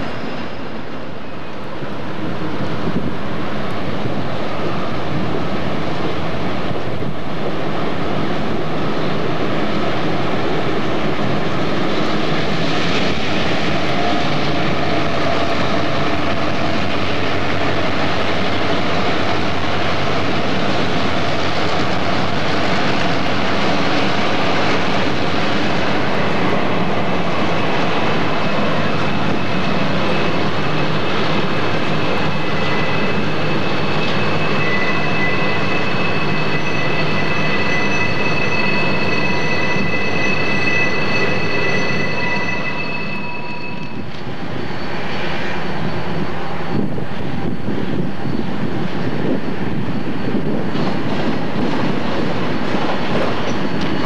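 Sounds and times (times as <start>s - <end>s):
diesel locomotive engine drone: 0.0s - 54.0s
rail noise: 0.0s - 54.0s.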